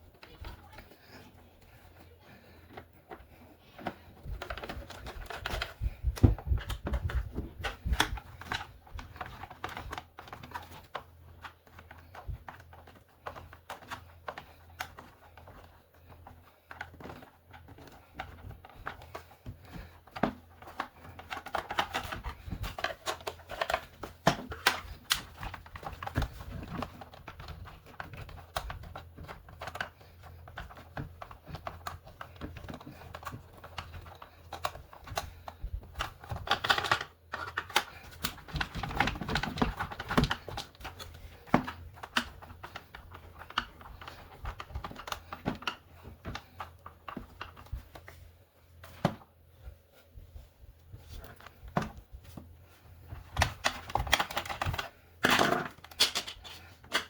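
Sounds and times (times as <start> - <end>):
plastic parts clicking and rattling: 0.0 - 49.7, 51.0 - 57.0.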